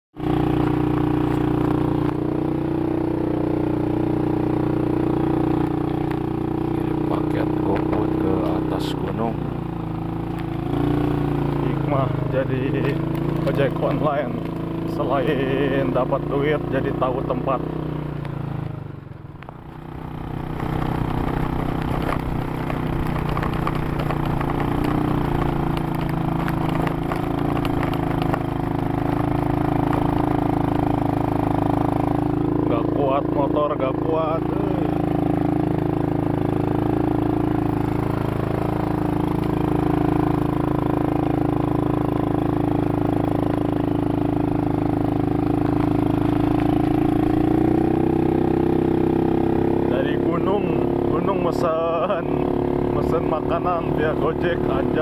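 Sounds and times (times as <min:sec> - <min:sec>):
motorcycle engine running: 0:00.2 - 0:55.0.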